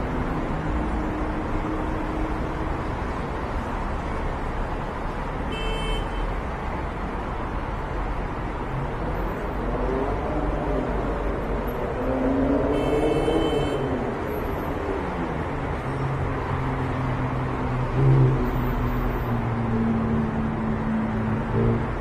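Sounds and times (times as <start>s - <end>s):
car engines passing: 0.0s - 22.0s
steady traffic rush: 0.0s - 22.0s.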